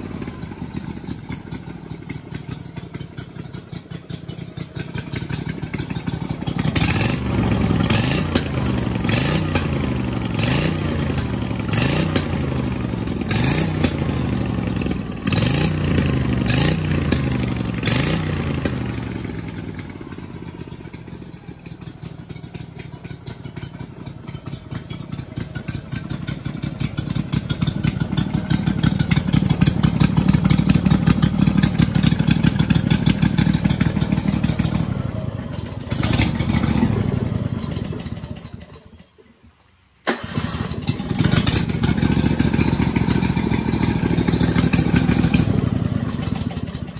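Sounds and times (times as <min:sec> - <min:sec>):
engine idling: 0:00.0 - 0:39.3, 0:40.0 - 0:46.9
engine revving: 0:03.7 - 0:21.4, 0:23.7 - 0:38.8, 0:40.0 - 0:46.9.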